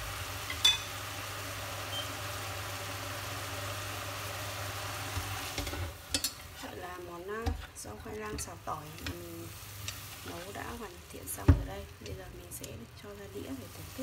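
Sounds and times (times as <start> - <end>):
faint cooking in a pot: 0.0 - 14.0
steady mechanical hum: 0.0 - 14.0.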